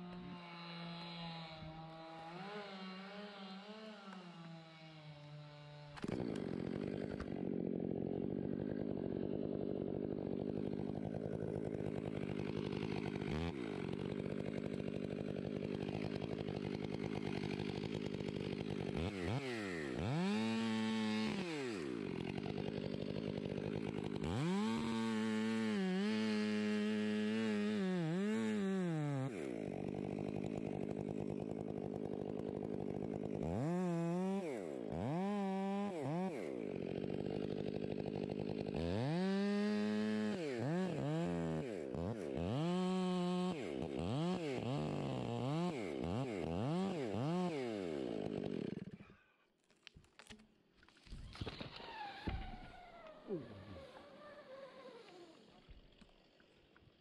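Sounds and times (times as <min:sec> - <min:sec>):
chainsaw idling and revving: 0:00.0 - 0:49.4, 0:51.5 - 0:56.0.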